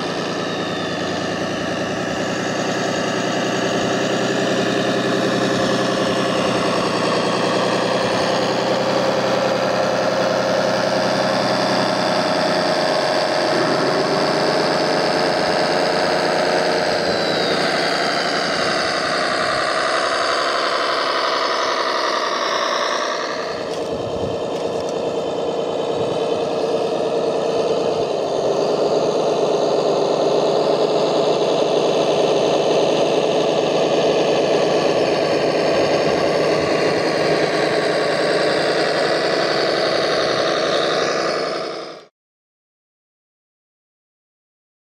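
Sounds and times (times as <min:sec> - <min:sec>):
model trucks driving over gravel: 0:01.0 - 0:42.0.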